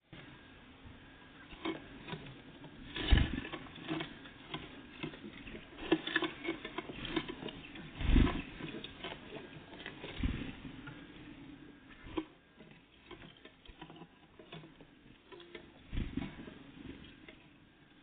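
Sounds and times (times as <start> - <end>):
birds pecking at feeder: 1.4 - 17.5.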